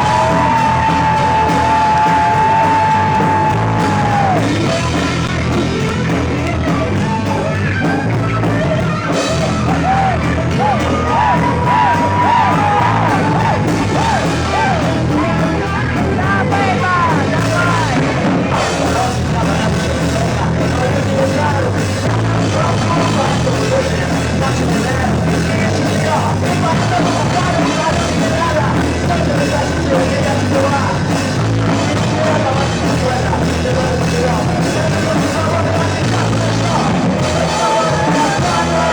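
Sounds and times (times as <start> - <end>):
bending guitar lead line: 0.0 - 38.9
live rock band playing: 0.0 - 38.9.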